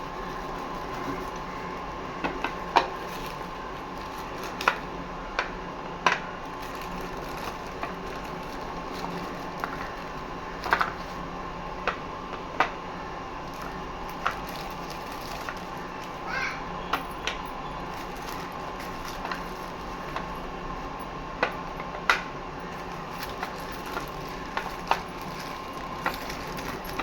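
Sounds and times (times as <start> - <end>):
faint hum: 0.0 - 27.0
small hard items clicking: 0.2 - 5.5, 6.1 - 11.2, 13.4 - 16.3, 16.9 - 20.5, 21.4 - 27.0.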